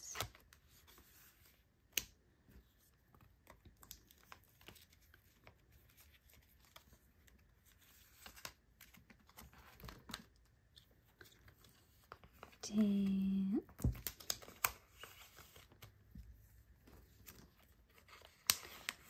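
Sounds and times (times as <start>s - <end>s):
plastic sleeves crinkling and clicking: 0.1s - 19.0s.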